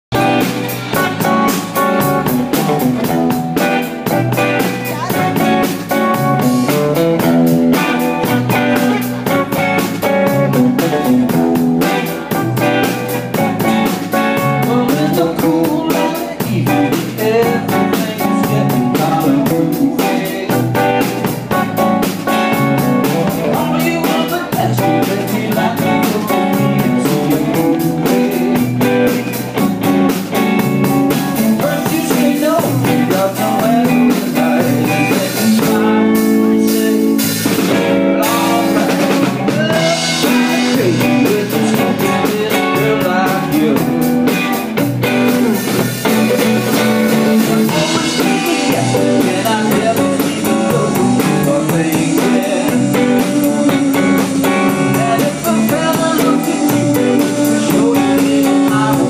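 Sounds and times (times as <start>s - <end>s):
electric guitar: 0.1s - 59.0s
live band music: 0.1s - 59.0s.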